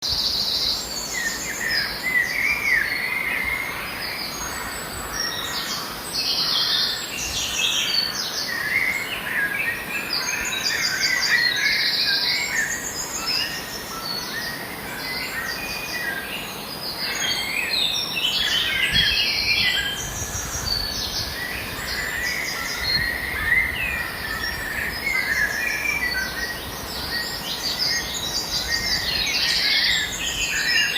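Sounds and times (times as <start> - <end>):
wild birds calling and chirping: 0.4 - 30.9.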